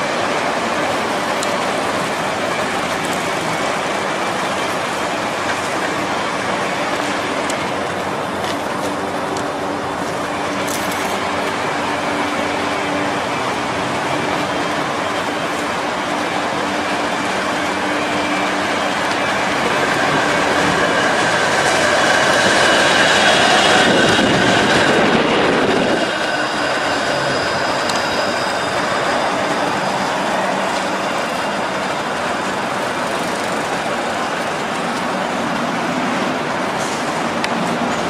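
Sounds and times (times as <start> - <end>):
street noise: 0.0 - 38.0
streetcar electric drive whine: 0.0 - 38.0
wheels rumbling on rails: 0.0 - 38.0.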